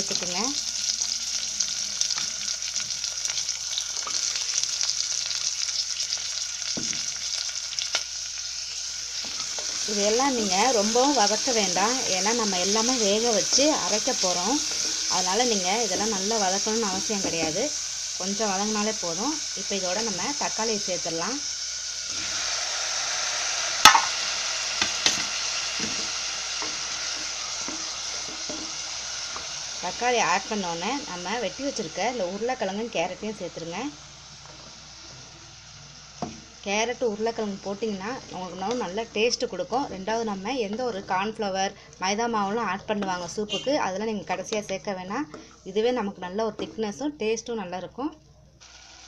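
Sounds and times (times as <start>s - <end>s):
onions sizzling in hot oil: 0.0s - 47.4s, 48.6s - 49.0s.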